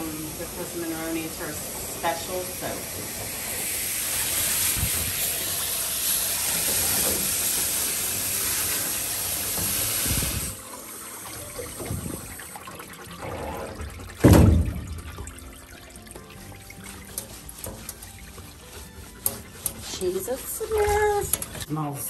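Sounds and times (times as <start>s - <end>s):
hose sprayer hissing: 0.0s - 12.4s, 16.2s - 21.7s.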